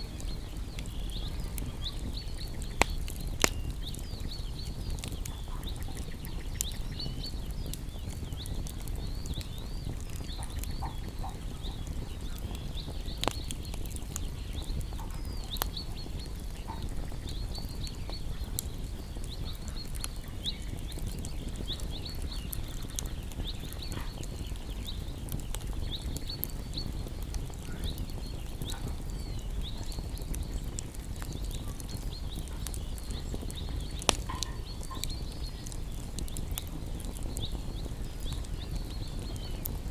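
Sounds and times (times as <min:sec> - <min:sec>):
songbirds chirping: 0:00.0 - 0:39.9
wood fire crackling and popping: 0:00.0 - 0:39.9.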